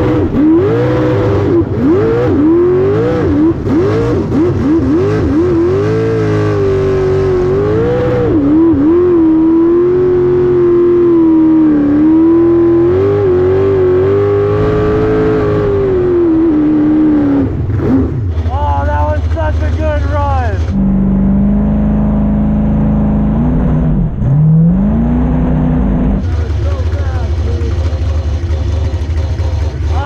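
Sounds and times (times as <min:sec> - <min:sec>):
boat engine running hard: 0:00.0 - 0:21.0, 0:26.2 - 0:30.0.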